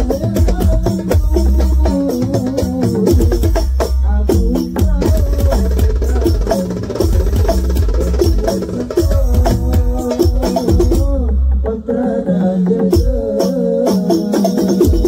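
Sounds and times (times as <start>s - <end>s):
frame drums in fast rhythm: 0.0s - 15.0s.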